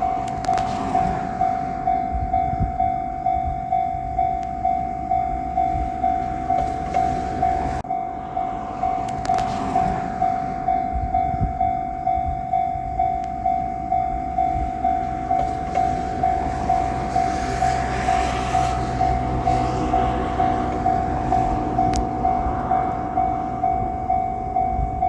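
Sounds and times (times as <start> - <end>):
level-crossing alarm ringing: 0.0 - 25.0
rushing noise: 0.0 - 25.0.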